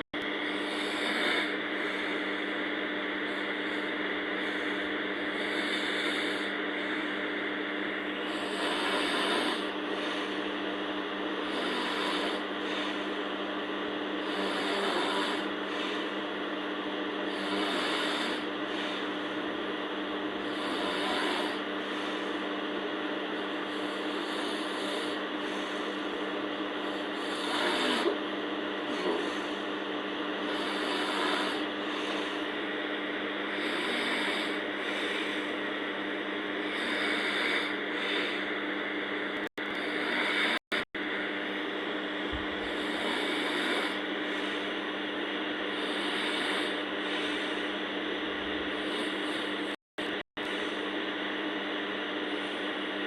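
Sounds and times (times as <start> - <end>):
person snoring: 0.0 - 51.0, 52.2 - 52.9
steady low hum: 0.0 - 53.0.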